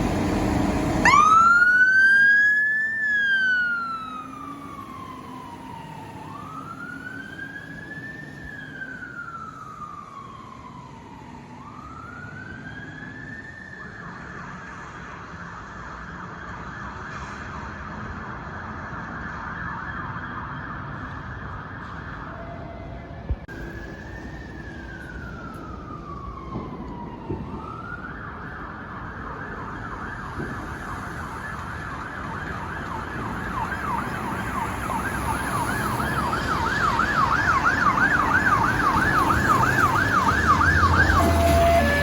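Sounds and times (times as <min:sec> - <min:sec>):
emergency vehicle siren: 0:00.0 - 0:42.0.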